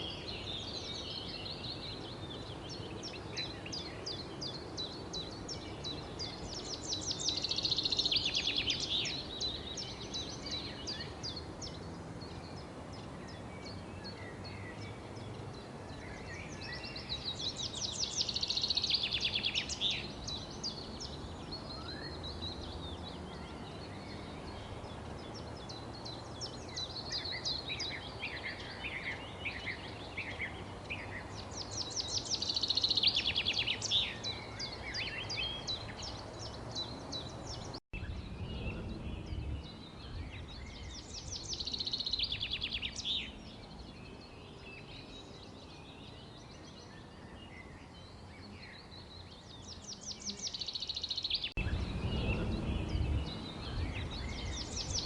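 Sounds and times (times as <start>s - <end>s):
low background hiss: 0.0s - 55.0s
songbirds chirping: 0.0s - 55.0s.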